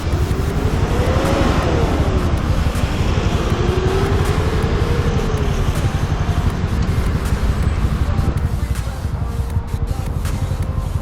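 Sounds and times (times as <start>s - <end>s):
loud low rumble: 0.0s - 11.0s
police siren wailing: 0.0s - 11.0s.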